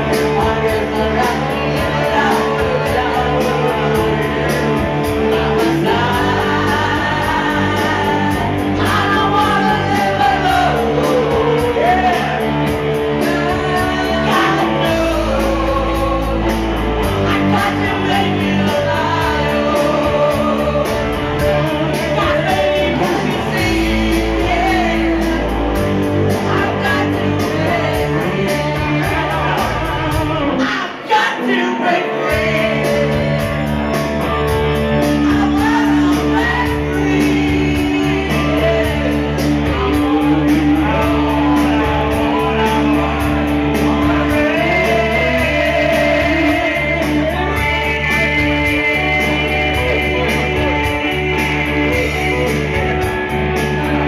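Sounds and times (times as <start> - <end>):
man and woman singing karaoke: 0.0 - 54.0
rock backing track with guitar: 0.0 - 54.0.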